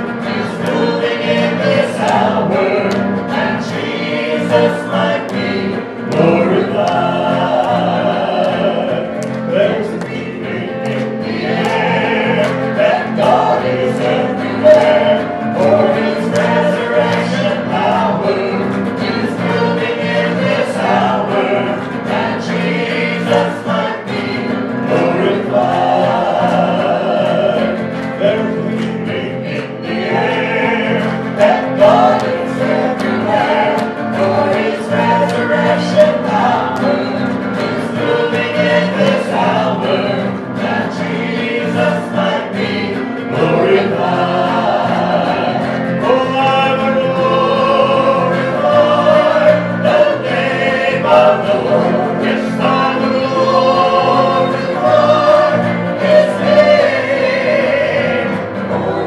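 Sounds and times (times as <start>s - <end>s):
electric guitar: 0.0s - 59.0s
vocal group singing in harmony: 0.0s - 59.0s.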